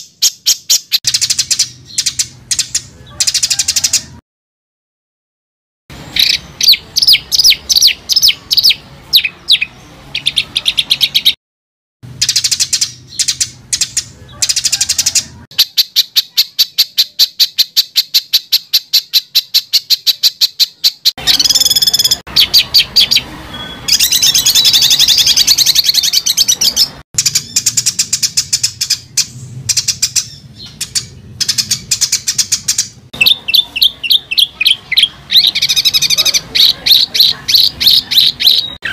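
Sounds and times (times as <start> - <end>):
songbird singing trills: 0.0 - 4.2, 6.0 - 11.4, 12.2 - 38.9.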